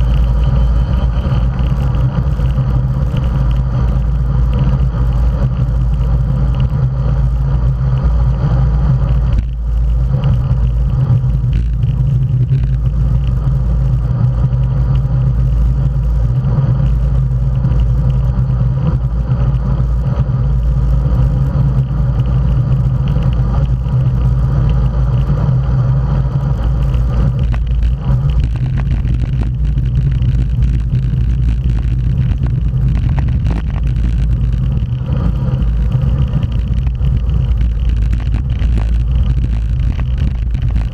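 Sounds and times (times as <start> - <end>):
tyre road noise: 0.0 - 40.9
wind rumble on microphone: 0.0 - 40.9.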